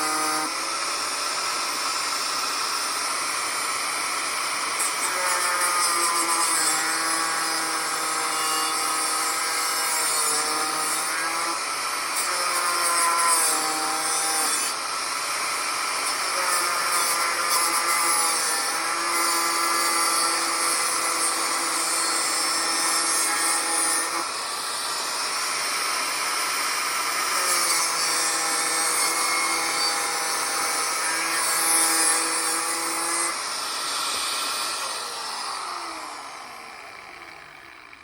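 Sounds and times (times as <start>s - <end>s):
power tool cutting steel pipe: 0.0s - 38.0s.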